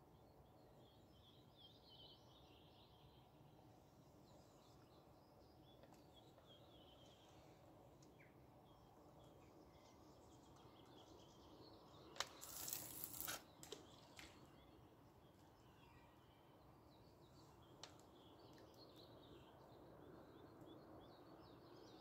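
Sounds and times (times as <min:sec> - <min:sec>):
birds chirping: 0:00.1 - 0:22.0.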